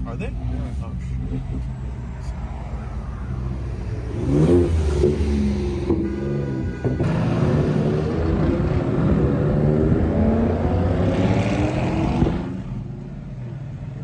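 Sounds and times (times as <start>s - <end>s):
car engine accelerating: 1.2s - 12.9s.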